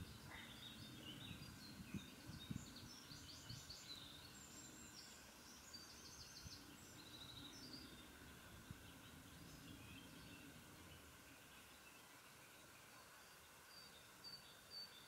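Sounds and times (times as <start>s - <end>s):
small birds chirping and trilling: 0.0s - 15.0s.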